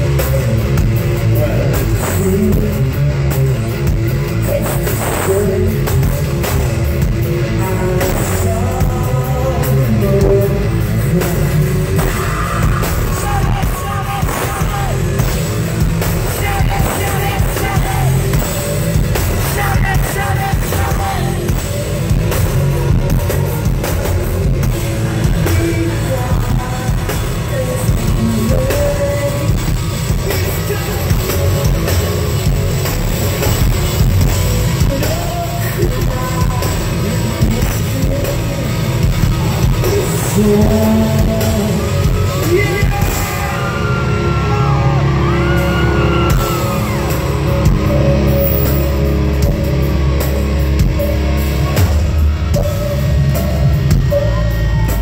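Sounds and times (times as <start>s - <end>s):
drum kit: 0.0s - 55.0s
heavy distorted guitars: 0.0s - 55.0s
person singing: 0.0s - 55.0s.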